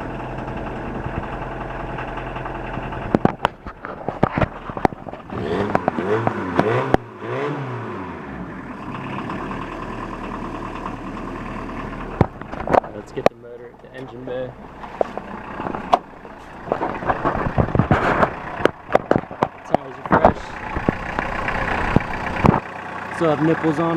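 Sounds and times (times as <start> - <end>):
diesel engine idling and revving: 0.0 - 23.9.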